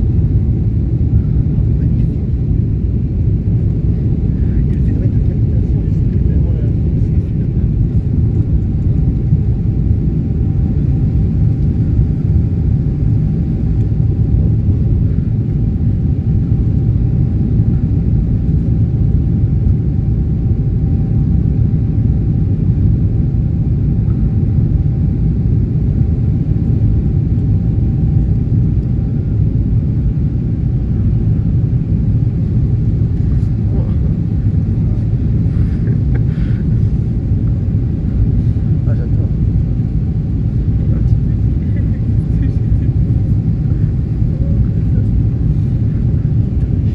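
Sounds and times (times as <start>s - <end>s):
airplane cabin engine rumble: 0.0s - 46.9s
faint steady whine: 0.0s - 46.9s.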